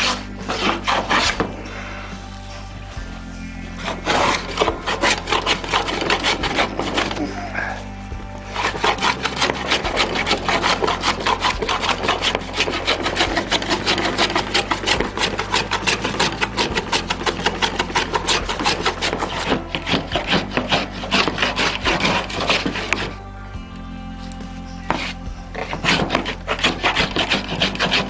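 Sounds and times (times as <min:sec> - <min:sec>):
hand plane shaving wood: 0:00.0 - 0:01.8, 0:03.7 - 0:23.2, 0:24.8 - 0:28.0.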